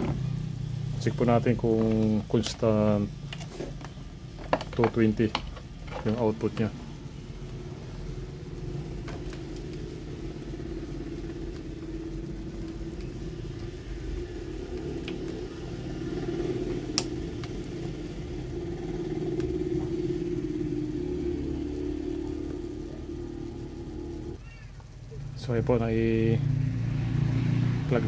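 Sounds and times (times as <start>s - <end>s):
voltage regulator humming: 0.0s - 28.0s.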